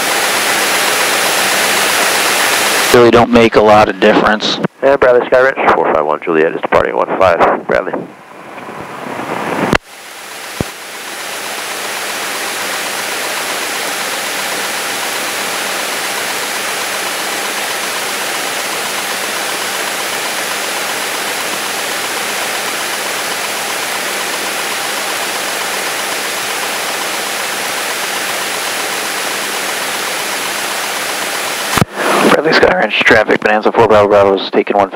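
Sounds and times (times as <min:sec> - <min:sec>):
light aircraft engine and propeller: 0:00.0 - 0:04.4, 0:06.1 - 0:34.8.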